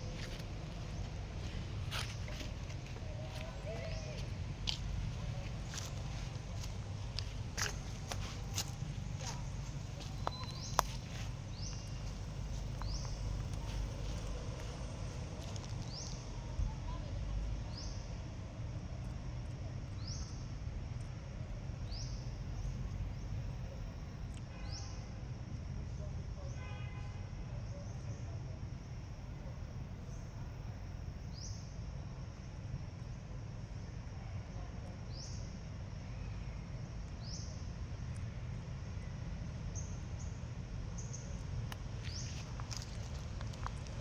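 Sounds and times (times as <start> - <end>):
low rumbling background noise: 0.0 - 44.0.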